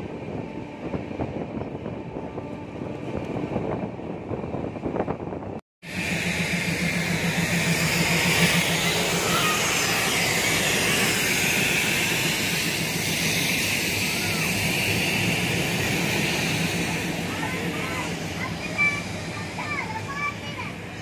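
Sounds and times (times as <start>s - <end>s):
train rumbling on track: 0.0s - 21.0s.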